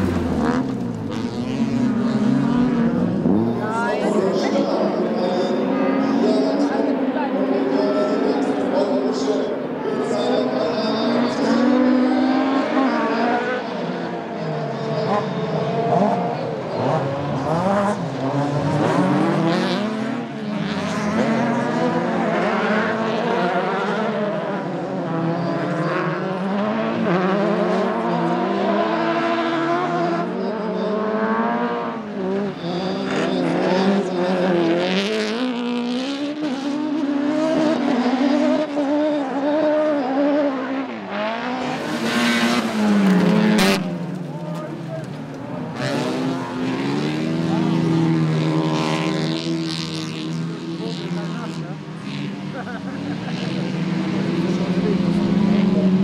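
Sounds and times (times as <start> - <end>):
racing car engines revving: 0.0 - 56.0.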